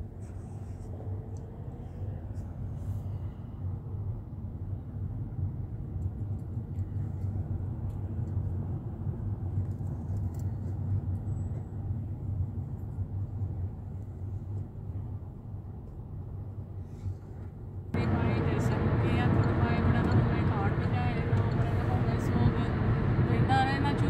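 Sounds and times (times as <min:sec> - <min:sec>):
car interior road and engine rumble: 0:00.0 - 0:24.0.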